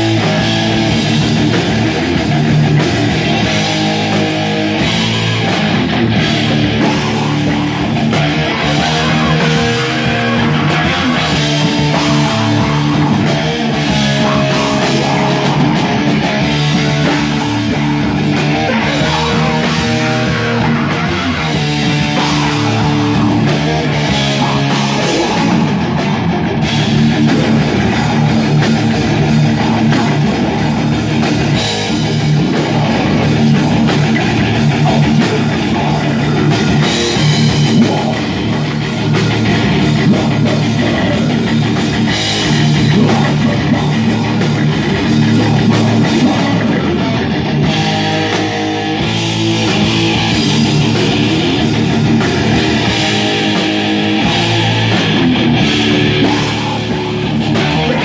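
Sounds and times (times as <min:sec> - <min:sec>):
bass guitar: 0:00.0 - 0:58.0
distorted electric guitars: 0:00.0 - 0:58.0
drum kit: 0:00.0 - 0:58.0.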